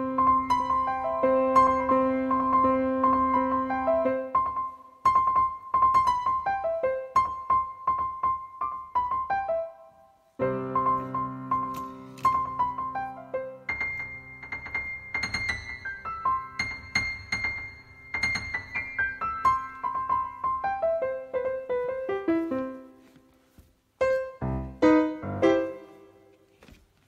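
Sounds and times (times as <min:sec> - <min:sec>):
gentle piano music: 0:00.0 - 0:26.8.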